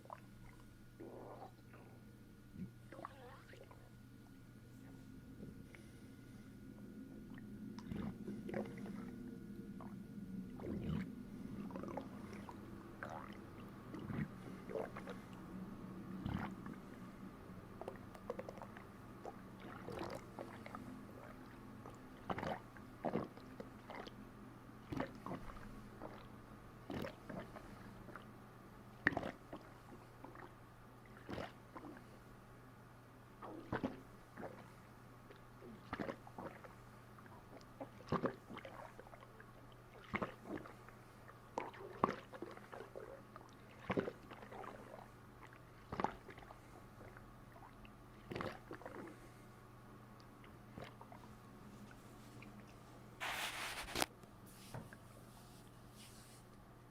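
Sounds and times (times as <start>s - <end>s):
stomach gurgling: 0.0s - 6.0s, 6.7s - 24.2s, 24.8s - 32.4s, 33.2s - 52.9s.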